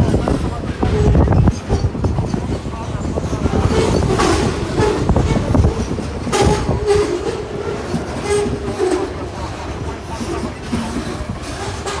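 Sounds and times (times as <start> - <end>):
train wheels rumbling: 0.0 - 12.0
wheels clicking over rails: 0.0 - 12.0.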